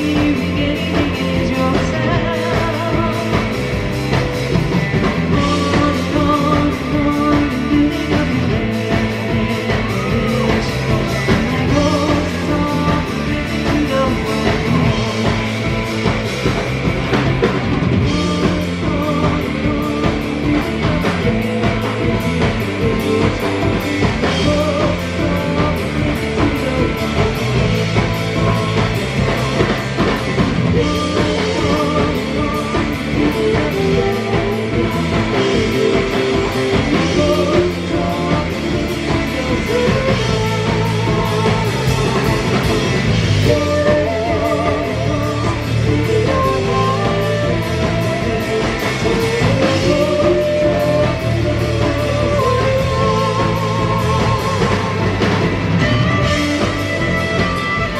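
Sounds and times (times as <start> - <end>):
bass guitar: 0.0 - 57.9
drum kit beat: 0.0 - 57.9
electric guitar: 0.0 - 57.9
woman singing: 0.0 - 57.9.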